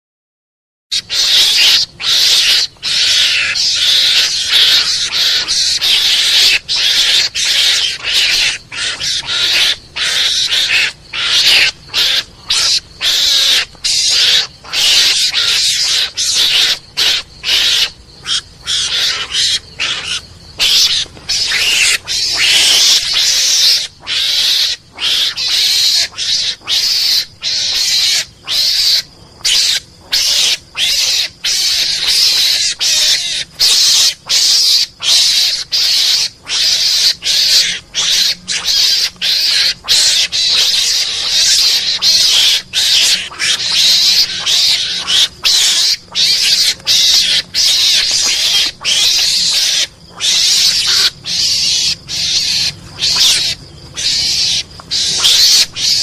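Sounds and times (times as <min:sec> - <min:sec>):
mongoose chattering squeals: 0:00.9 - 0:56.0.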